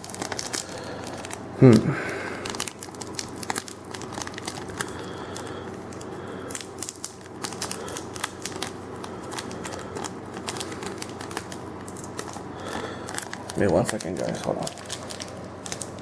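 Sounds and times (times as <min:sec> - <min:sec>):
foil wrapper crinkling: 0:00.0 - 0:16.0.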